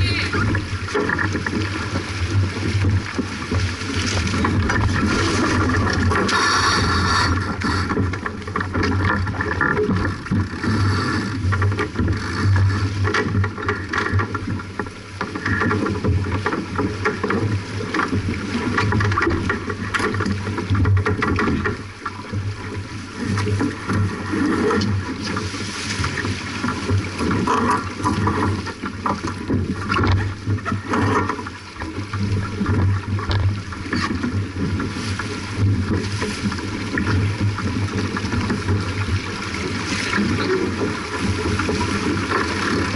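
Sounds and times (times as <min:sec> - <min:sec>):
water splashing along a boat hull: 0:00.0 - 0:42.9
wind rumbling on microphone: 0:00.0 - 0:42.9.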